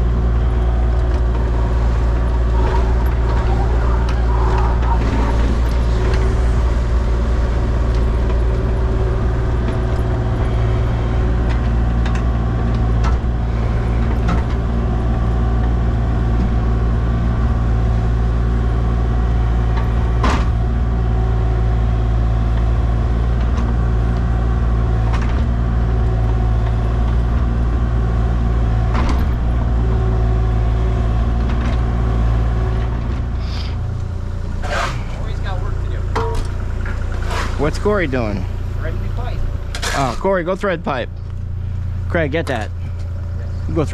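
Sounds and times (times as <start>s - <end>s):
heavy machinery engine running: 0.0s - 43.9s.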